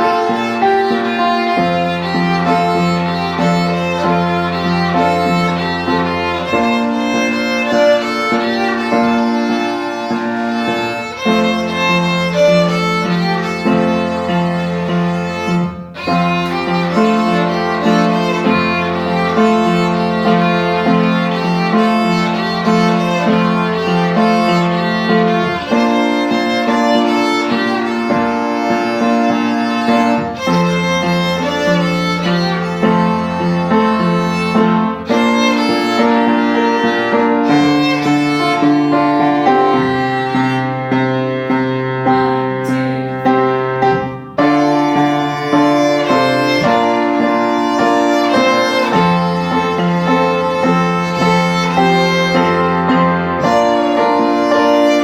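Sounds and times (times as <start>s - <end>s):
low held accompaniment: 0.0s - 55.0s
violin melody: 0.0s - 55.0s.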